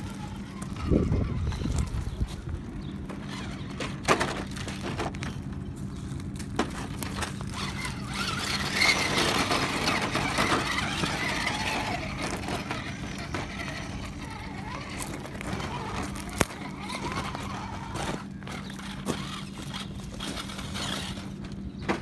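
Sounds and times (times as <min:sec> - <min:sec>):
electric motor whining: 0:00.0 - 0:05.4, 0:06.9 - 0:21.8
tyres crunching on stones: 0:00.0 - 0:22.0.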